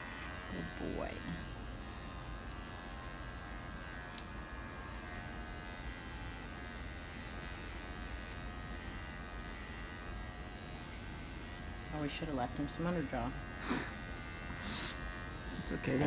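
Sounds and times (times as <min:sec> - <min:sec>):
electric clippers buzzing: 0:00.0 - 0:16.0.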